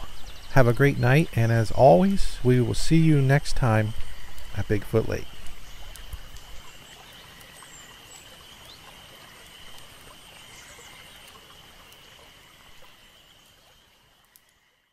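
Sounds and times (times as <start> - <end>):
steady hiss: 0.0 - 14.8.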